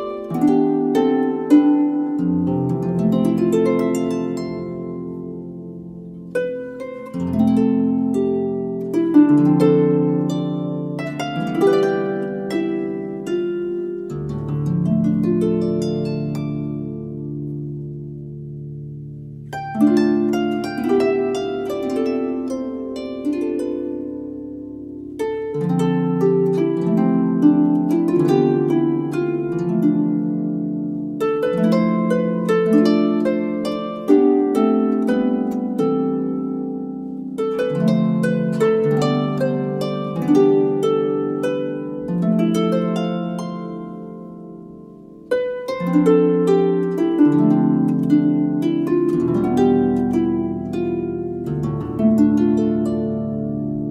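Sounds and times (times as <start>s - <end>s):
solo harp music: 0.0s - 53.9s.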